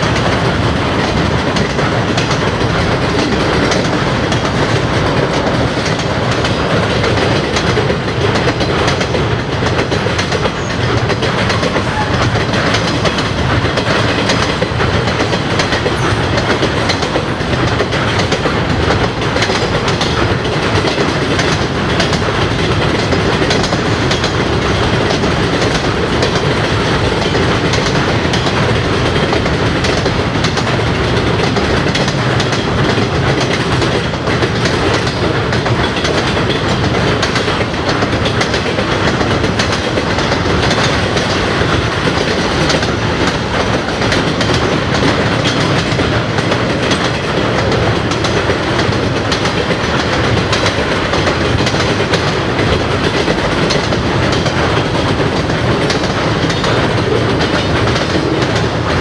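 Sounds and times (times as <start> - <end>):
freight train rolling over bridge: 0.0 - 59.0
wheels clicking over rail joints: 0.0 - 59.0.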